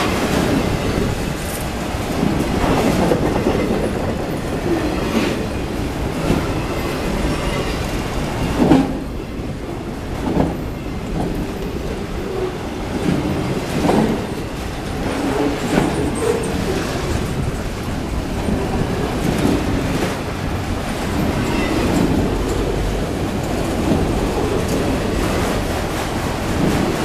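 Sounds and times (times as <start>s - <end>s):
steel wheels rumbling on rail: 0.0s - 27.0s
wheels clacking over rail joints: 0.0s - 27.0s.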